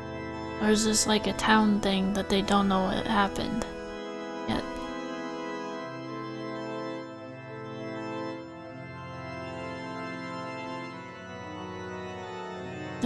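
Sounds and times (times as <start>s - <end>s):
organ playing sustained chords: 0.0s - 13.0s.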